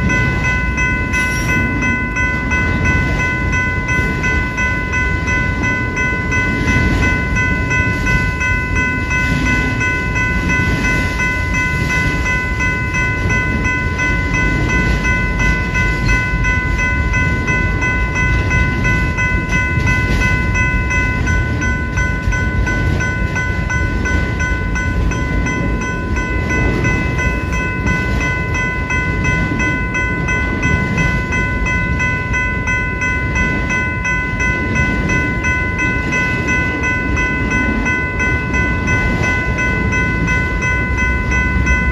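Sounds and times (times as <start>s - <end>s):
railroad crossing bell ringing: 0.0s - 41.9s
train rumbling past: 0.0s - 41.9s.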